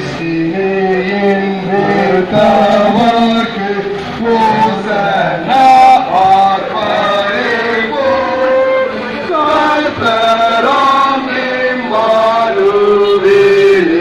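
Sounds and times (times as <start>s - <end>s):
group singing a hymn: 0.0s - 14.0s.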